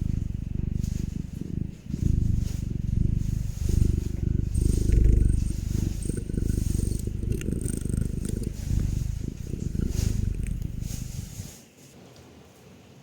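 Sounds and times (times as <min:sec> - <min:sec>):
cat purring: 0:00.0 - 0:11.6.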